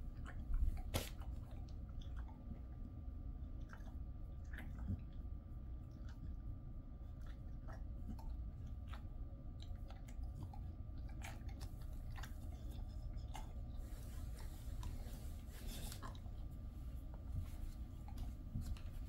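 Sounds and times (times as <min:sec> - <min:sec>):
dog chewing and lip smacking: 0:00.0 - 0:19.0.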